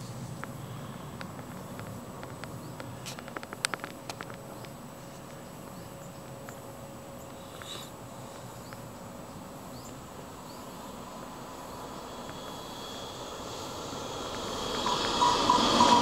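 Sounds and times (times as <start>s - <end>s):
passenger train approaching: 0.0s - 3.7s, 4.4s - 16.0s
faint insects: 0.0s - 16.0s.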